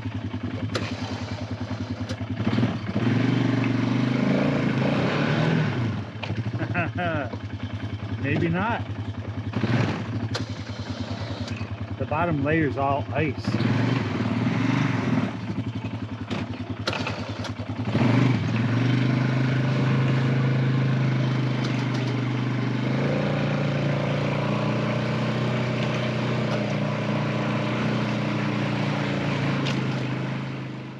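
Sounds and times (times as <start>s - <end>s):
snow-clearing machine engine running: 0.0s - 30.9s.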